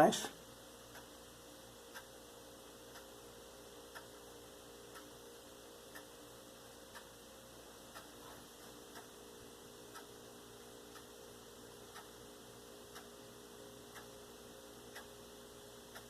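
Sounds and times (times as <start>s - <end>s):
low electrical hum: 0.0s - 16.0s
faint clock-like ticking: 0.4s - 16.0s.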